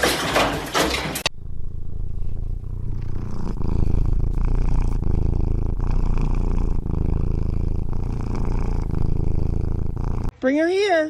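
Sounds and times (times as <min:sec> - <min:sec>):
pet rumbling purr: 0:00.2 - 0:10.3.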